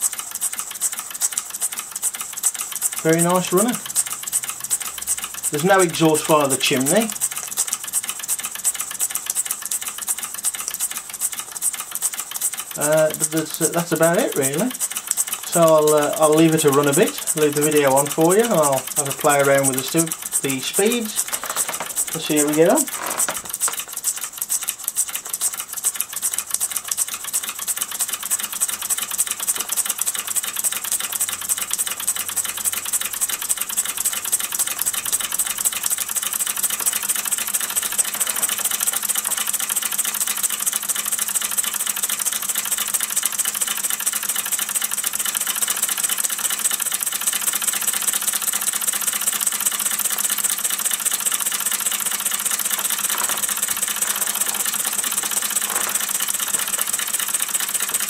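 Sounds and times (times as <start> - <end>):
model steam engine ticking: 0.0 - 58.0.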